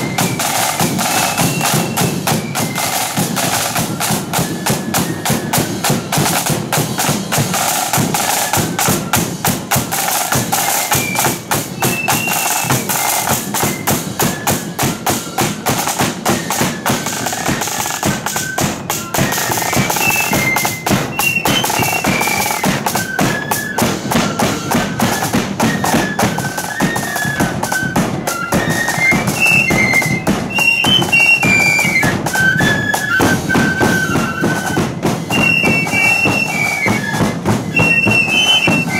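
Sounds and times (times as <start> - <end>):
high flute melody: 0.0 - 38.9
side drum strokes and rolls: 0.0 - 38.9.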